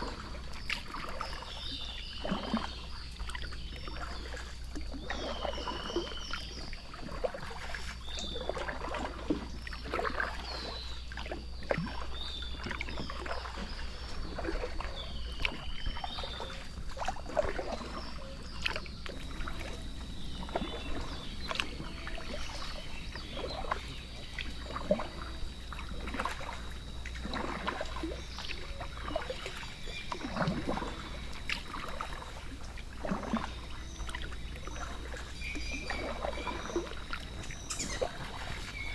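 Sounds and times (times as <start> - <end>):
paddle splashing in water: 0.0 - 38.9.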